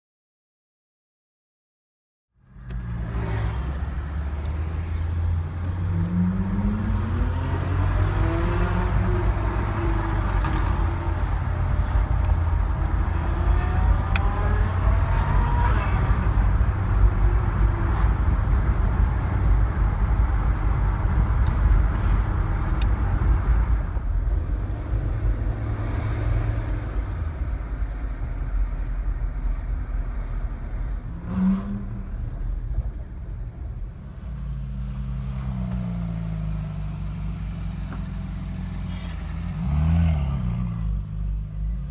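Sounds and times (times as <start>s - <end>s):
road rumble: 2.3s - 41.9s
car engine: 2.4s - 41.9s.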